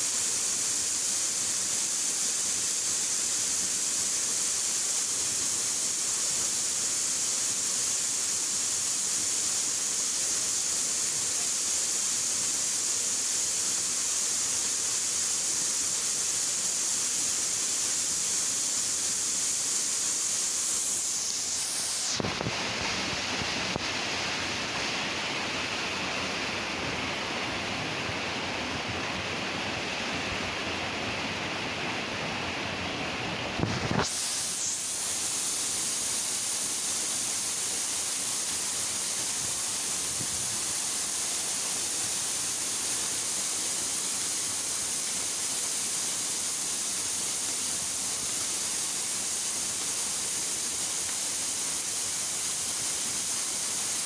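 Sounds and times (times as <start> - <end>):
constant high hiss: 0.0 - 54.0
waterfall splashing into pool: 0.0 - 54.0.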